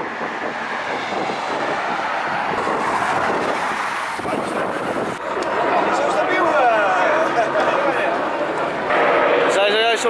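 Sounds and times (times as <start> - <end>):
rush of passing vehicles: 0.0 - 10.0.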